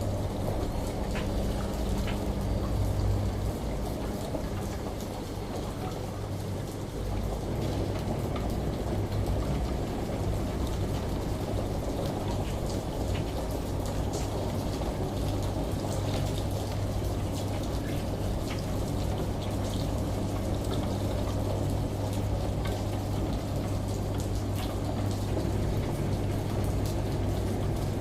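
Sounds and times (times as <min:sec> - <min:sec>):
running water: 0:00.0 - 0:28.0
washing machine motor hum: 0:00.0 - 0:28.0.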